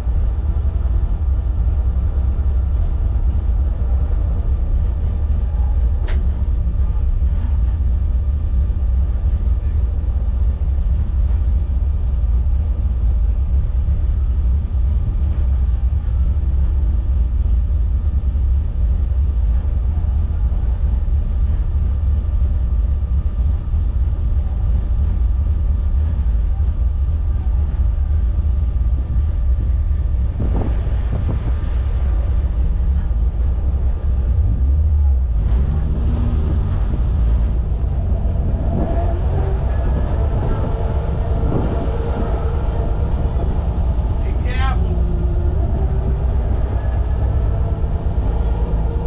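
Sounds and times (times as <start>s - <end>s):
car engine low rumble: 0.0s - 49.0s.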